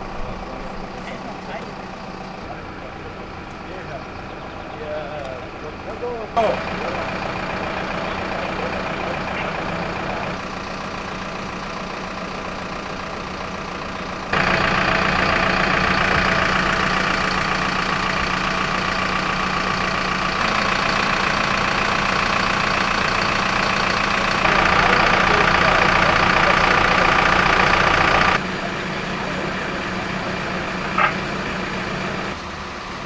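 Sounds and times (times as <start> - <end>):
fire truck engine idling: 0.0 - 33.0.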